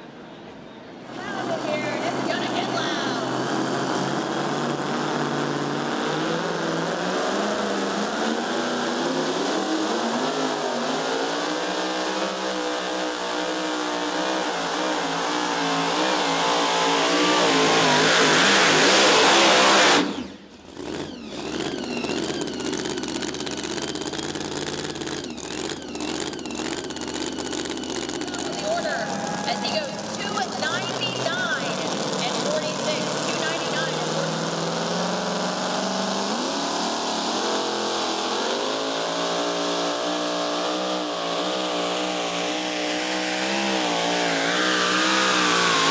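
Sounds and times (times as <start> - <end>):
engine running low and steady: 0.0 - 45.9
truck engine at full throttle: 0.0 - 45.9.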